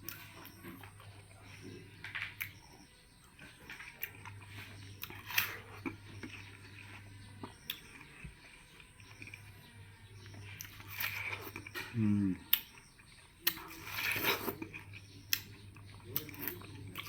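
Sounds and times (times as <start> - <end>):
person chewing watermelon: 0.0 - 17.0.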